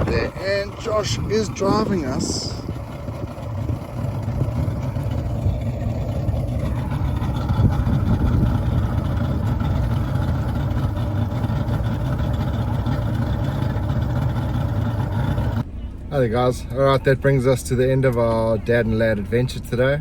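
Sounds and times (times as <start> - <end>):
outboard motor droning: 0.0 - 20.0.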